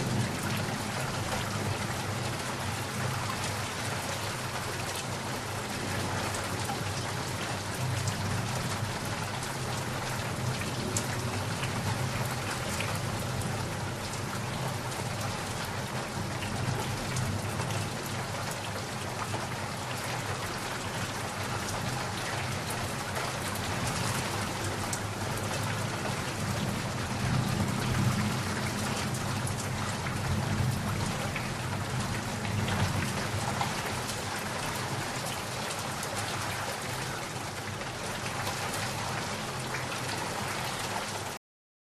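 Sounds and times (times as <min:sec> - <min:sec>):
heavy rain pattering: 0:00.0 - 0:41.4.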